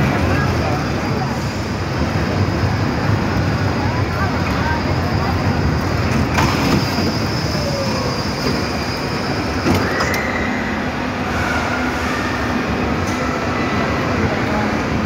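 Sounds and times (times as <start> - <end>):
roller coaster wheels rumbling on rail: 0.0 - 15.0.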